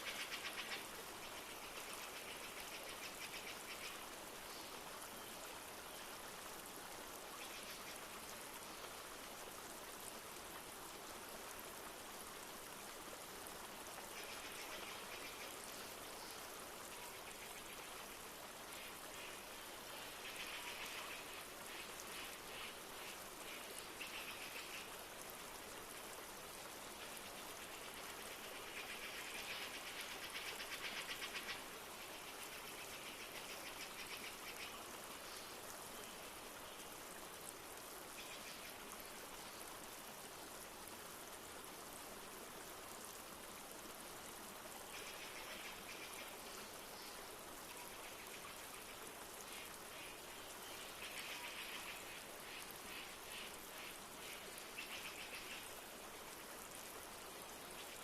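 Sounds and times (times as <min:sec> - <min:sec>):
light rain: 0:00.0 - 0:58.0.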